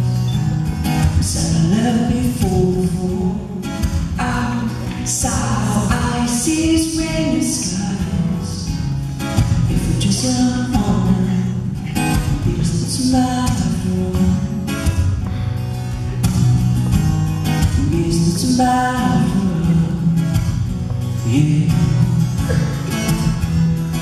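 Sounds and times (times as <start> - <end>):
acoustic guitar strumming: 0.0 - 24.0
man singing: 1.0 - 15.3, 17.4 - 23.4.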